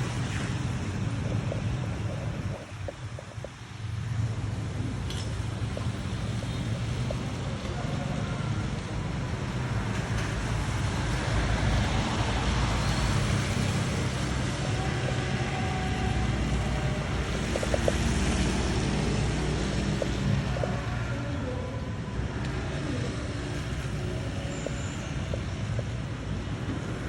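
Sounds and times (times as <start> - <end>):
vehicle road noise: 0.0 - 27.0.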